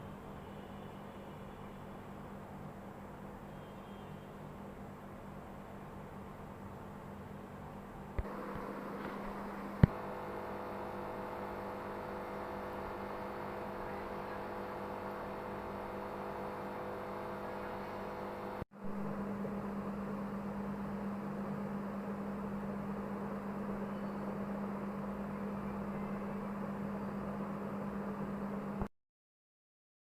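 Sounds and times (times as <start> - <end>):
steady electrical hum: 0.0 - 28.9.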